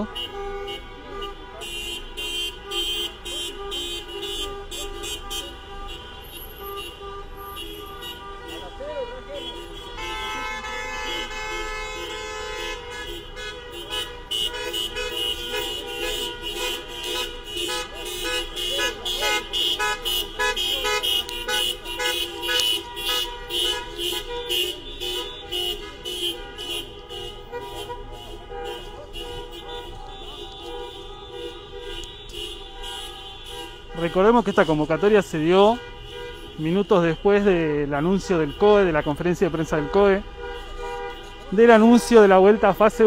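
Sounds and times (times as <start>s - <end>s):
car horns held steady: 0.0s - 43.0s.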